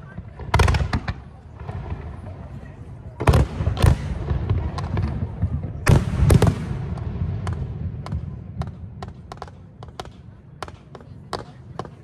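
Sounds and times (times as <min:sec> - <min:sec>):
fireworks loud bang and boom: 0:00.0 - 0:10.8
sharp cracks of small fireworks: 0:00.0 - 0:12.0.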